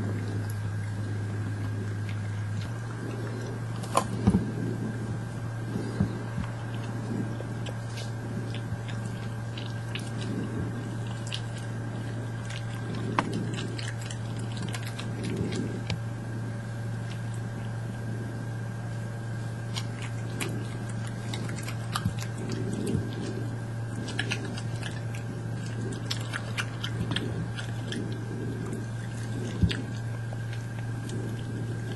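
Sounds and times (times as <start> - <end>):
badgers chewing and crunching nuts: 0.0 - 31.9
steady low hum: 0.0 - 31.9.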